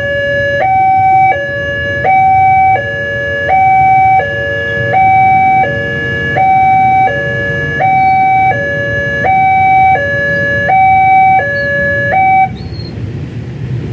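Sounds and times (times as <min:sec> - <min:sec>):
two-tone siren: 0:00.0 - 0:12.6
low traffic rumble: 0:00.0 - 0:13.9.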